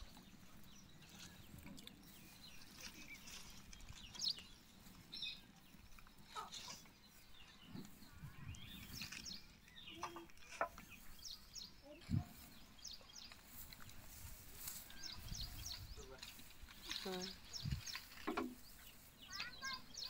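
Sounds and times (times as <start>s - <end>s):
chickens clucking: 0.5s - 20.0s.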